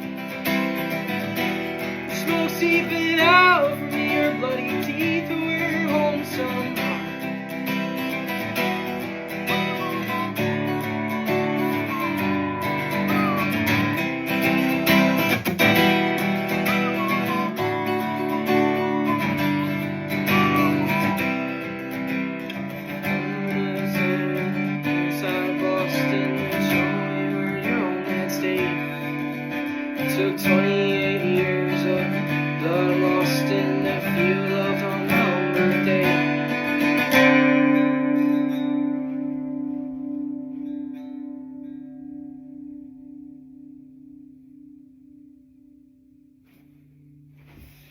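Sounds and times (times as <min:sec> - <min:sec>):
acoustic guitar strumming chords: 0:00.0 - 0:47.9.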